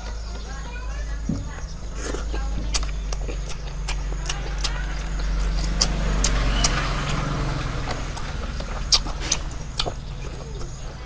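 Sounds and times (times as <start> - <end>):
close-up chewing: 0.0 - 11.0
low rumble: 0.0 - 11.0
mouth clicks: 1.1 - 11.0.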